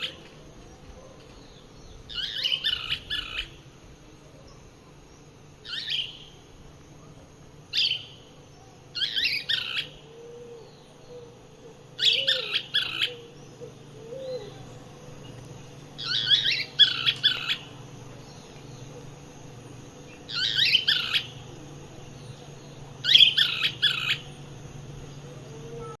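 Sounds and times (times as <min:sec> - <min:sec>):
bird singing: 0:00.0 - 0:26.0.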